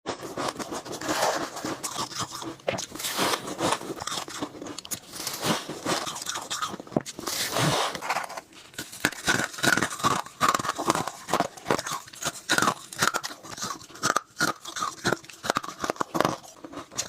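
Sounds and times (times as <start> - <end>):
ice cubes crunched between teeth: 0.1 - 17.0.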